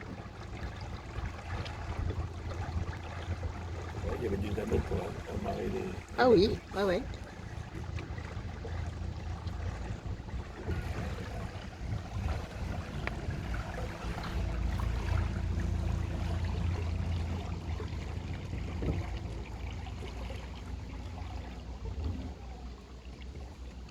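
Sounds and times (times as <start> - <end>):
low steady rumble: 0.0 - 23.9
water sloshing along hull: 0.0 - 23.9.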